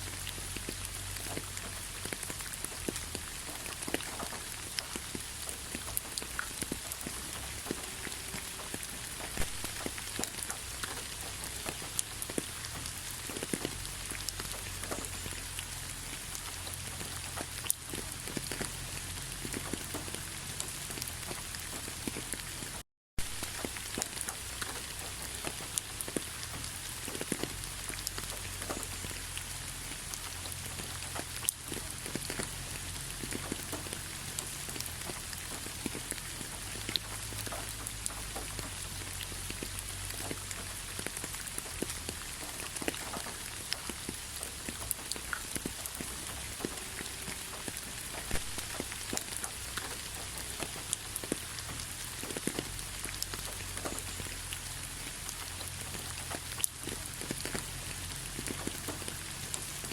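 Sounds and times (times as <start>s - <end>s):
light rain falling: 0.0s - 59.9s
raindrops ticking on surfaces: 0.0s - 59.9s.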